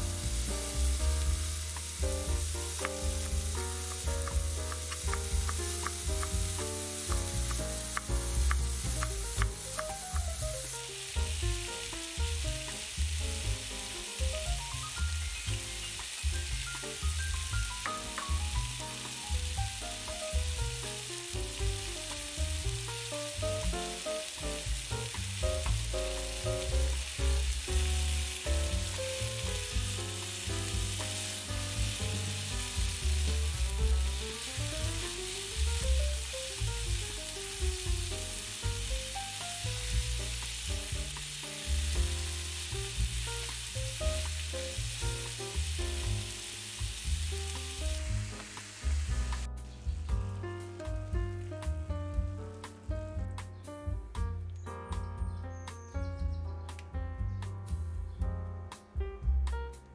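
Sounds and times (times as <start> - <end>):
vegetables sizzling in a frying pan: 0.0 - 52.6.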